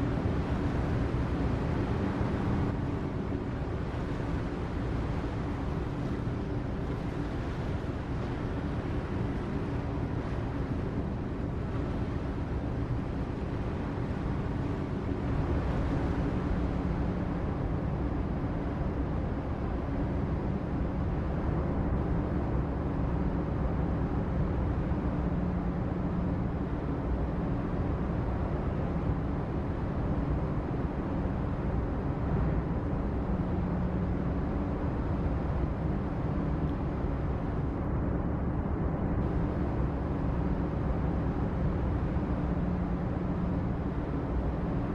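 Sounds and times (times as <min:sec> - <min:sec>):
constant low hum: 0:00.0 - 0:44.9.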